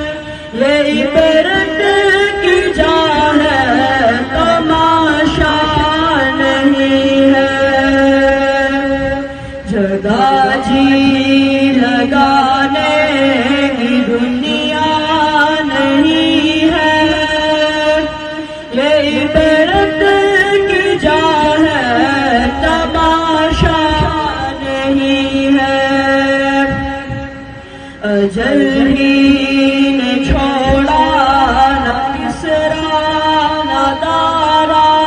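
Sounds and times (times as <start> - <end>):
boy singing unaccompanied: 0.0 - 35.0
steady low drone: 0.0 - 35.0.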